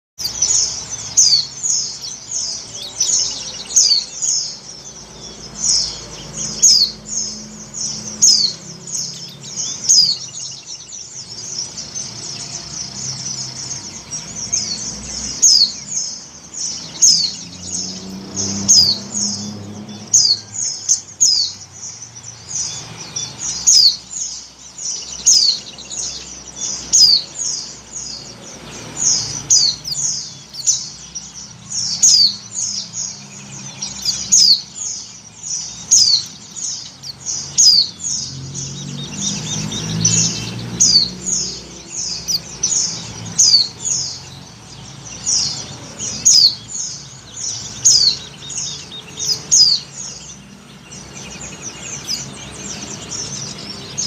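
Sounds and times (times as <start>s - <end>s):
bird giving high chirps: 0.2s - 54.0s.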